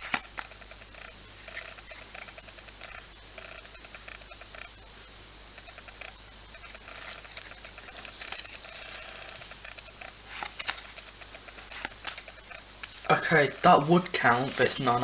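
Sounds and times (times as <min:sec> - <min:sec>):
cards rustling and clicking: 0:00.0 - 0:04.6, 0:06.5 - 0:15.0.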